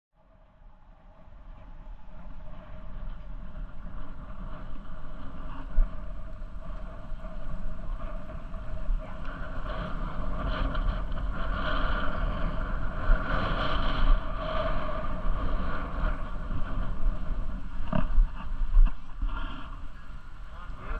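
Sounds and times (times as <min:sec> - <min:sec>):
wind buffeting microphone: 0:00.2 - 0:20.9
bicycle riding whoosh: 0:00.4 - 0:20.9.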